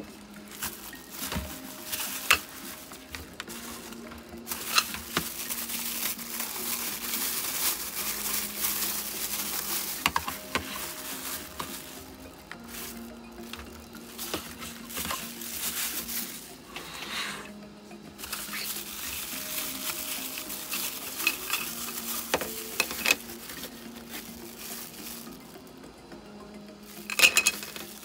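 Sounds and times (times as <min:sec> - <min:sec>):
plastic bags crinkling: 0:00.0 - 0:25.8, 0:26.8 - 0:28.0.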